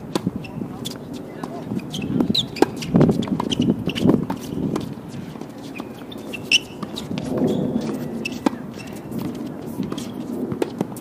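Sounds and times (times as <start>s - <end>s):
tennis balls bouncing on hard court: 0.0s - 11.0s
tennis balls struck by rackets: 0.0s - 11.0s.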